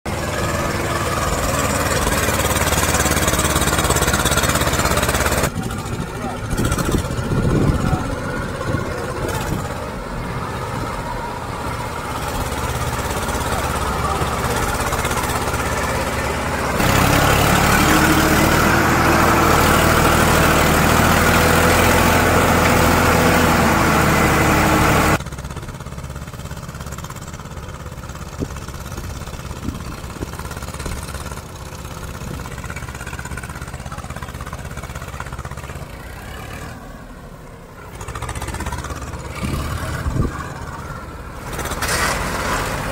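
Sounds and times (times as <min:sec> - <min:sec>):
tractor diesel engines: 0:00.0 - 0:42.9.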